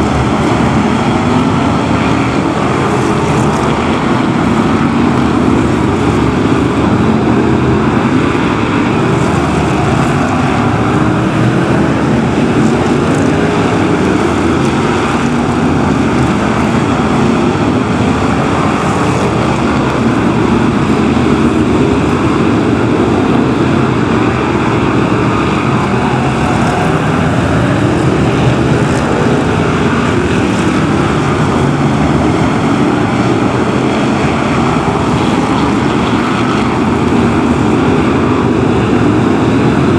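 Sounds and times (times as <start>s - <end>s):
racing car engines droning: 0.0s - 39.9s.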